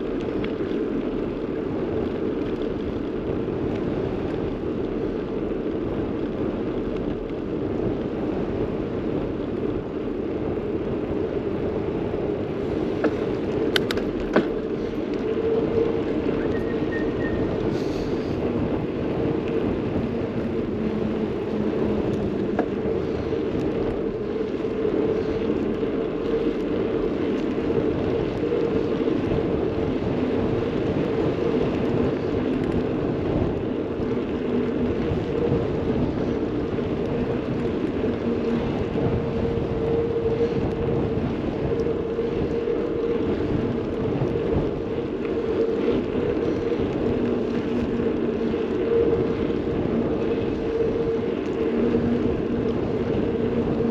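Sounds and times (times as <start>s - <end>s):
bicycle rolling noise: 0.0s - 53.9s
constant low hum: 0.0s - 53.9s
wind noise: 0.0s - 53.9s.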